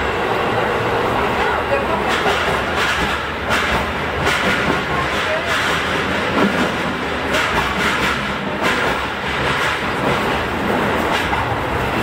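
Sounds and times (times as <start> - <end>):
rumble of train wheels on rails: 0.0 - 12.0
clacks over rail joints: 1.4 - 12.0.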